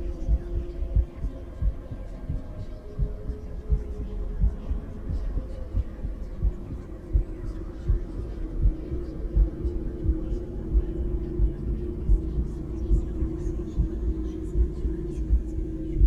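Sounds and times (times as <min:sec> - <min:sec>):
heartbeat through stethoscope: 0:00.0 - 0:16.0
low hum: 0:00.0 - 0:16.0.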